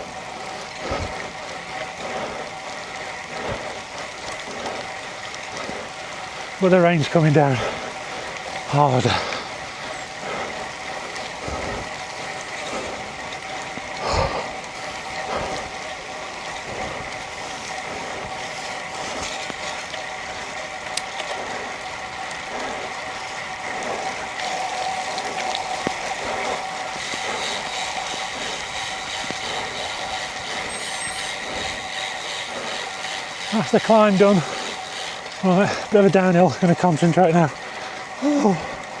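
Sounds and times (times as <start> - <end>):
bicycle whirring and ticking: 0.0 - 39.0
wet tyres and rain wash: 0.0 - 39.0.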